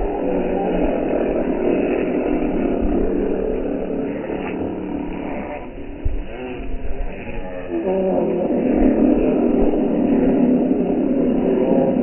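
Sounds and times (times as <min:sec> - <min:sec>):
low rumble: 0:00.0 - 0:12.0
slowed-down gull calls: 0:00.0 - 0:12.0.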